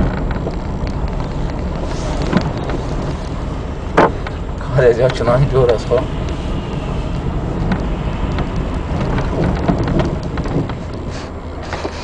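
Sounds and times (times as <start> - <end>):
sharp ticks of rain: 0.0 - 11.8
car rumble: 0.0 - 12.0
rain hissing: 0.0 - 12.0.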